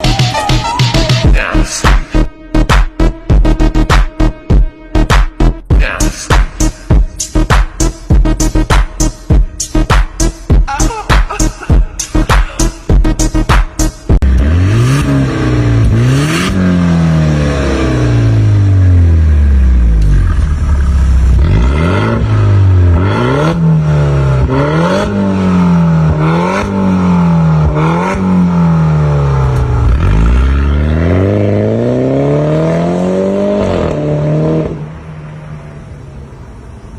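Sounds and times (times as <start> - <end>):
car engine revving: 0.0 - 36.0
engine droning: 0.0 - 36.9.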